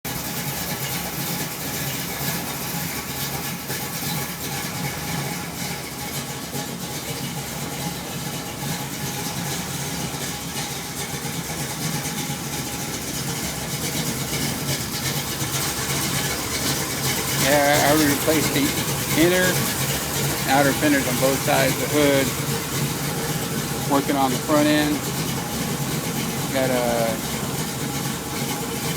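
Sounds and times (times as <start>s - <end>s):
engine idling with lopey rumble: 0.1s - 28.9s.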